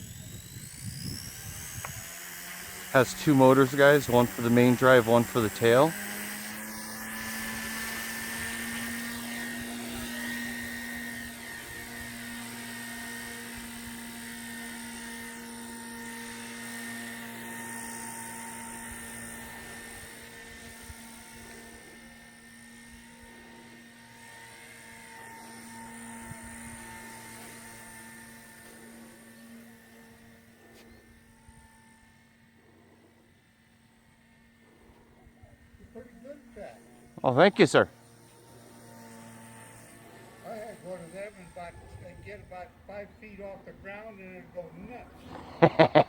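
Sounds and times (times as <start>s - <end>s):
rc helicopter rotor whine: 0.0s - 46.0s.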